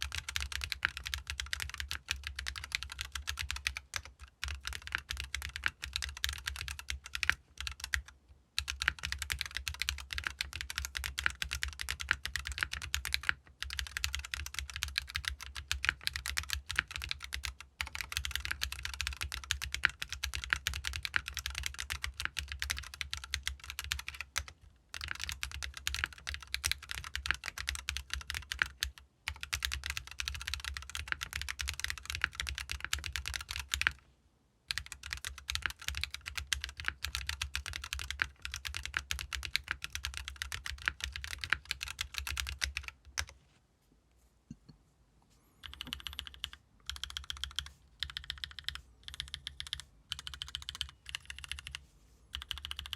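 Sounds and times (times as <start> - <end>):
mechanical keyboard typing: 0.0 - 34.0, 34.7 - 43.4, 45.6 - 52.9.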